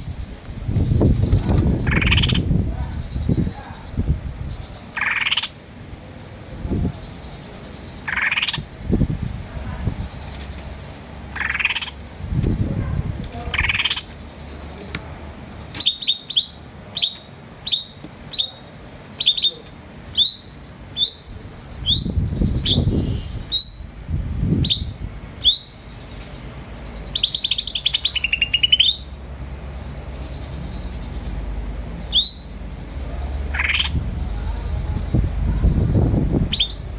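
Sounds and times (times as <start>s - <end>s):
starling chirping: 0.1s - 5.6s, 6.4s - 36.9s.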